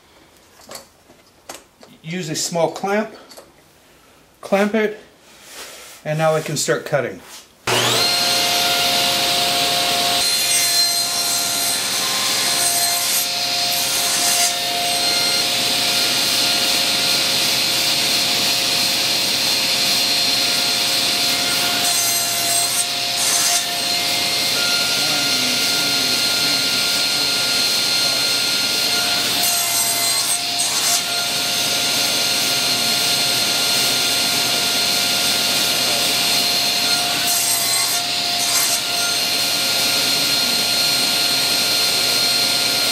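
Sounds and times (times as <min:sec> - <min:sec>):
saw blade cutting wood: 0:07.7 - 0:42.9
table saw whining: 0:07.7 - 0:42.9.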